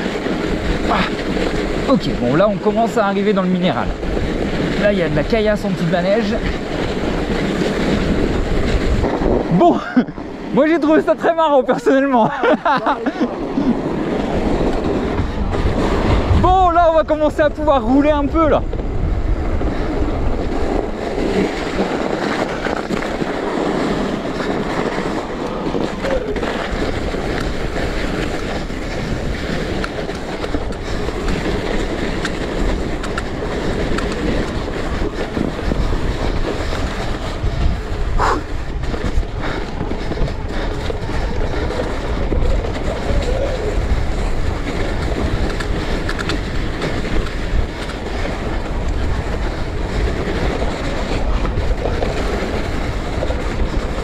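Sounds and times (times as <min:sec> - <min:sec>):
bike rattling over rocks: 0:00.0 - 0:54.0.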